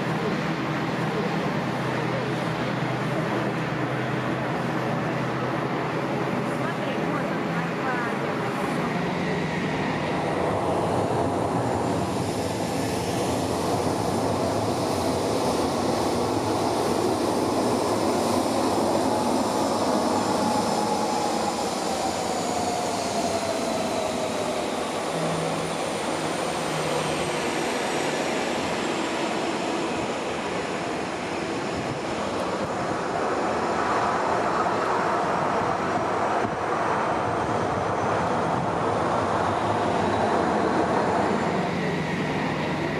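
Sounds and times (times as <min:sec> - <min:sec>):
jet engines roaring and whining: 0:00.0 - 0:42.9.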